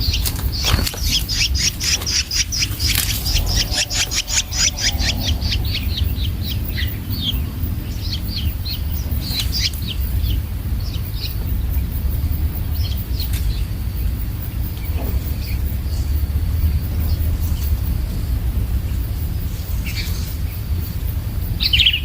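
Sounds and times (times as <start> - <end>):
steady low rumble: 0.0 - 22.0
young birds chirping: 0.0 - 22.0.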